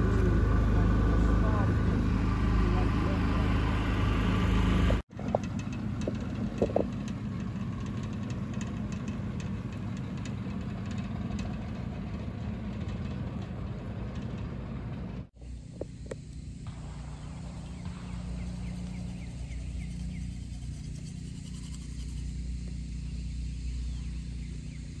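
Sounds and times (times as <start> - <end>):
boat motor running: 0.0 - 25.0.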